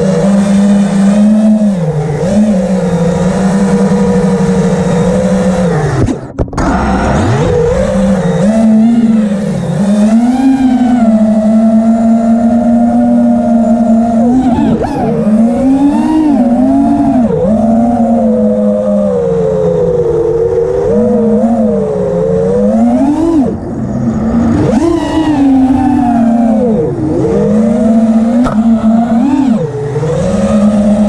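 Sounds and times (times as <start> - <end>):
model aircraft motor drone: 0.0 - 31.0.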